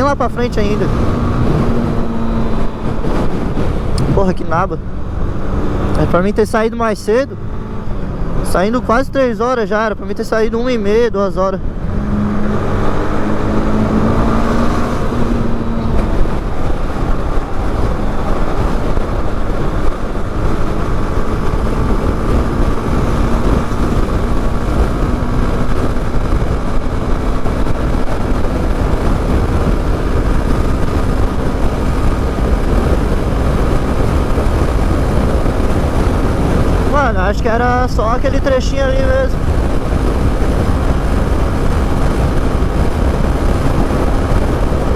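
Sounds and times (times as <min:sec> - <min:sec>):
motorcycle engine running: 0:00.0 - 0:09.3, 0:11.6 - 0:44.9
road and wind noise: 0:00.0 - 0:44.9.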